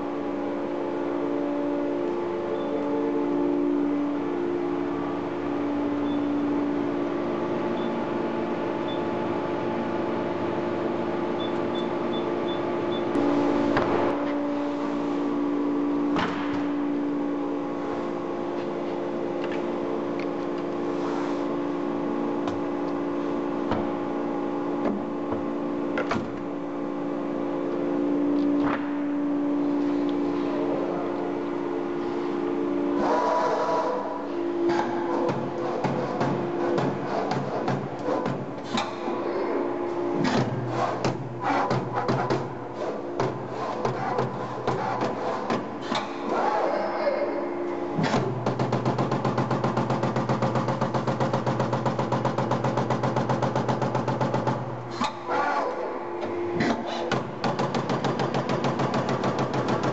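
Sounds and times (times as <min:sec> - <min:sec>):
punch press humming: 0:00.0 - 0:46.6, 0:47.6 - 0:59.9.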